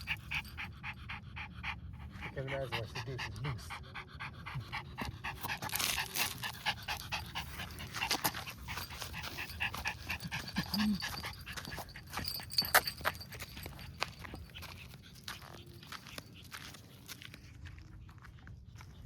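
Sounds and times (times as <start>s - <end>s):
dog panting: 0.0s - 17.4s.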